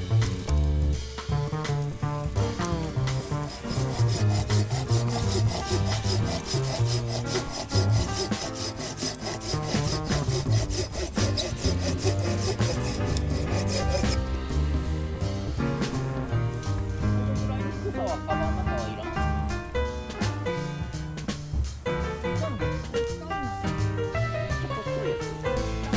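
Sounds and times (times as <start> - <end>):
background music with bass: 0.0 - 25.9
rhythmic scraping: 0.0 - 25.9.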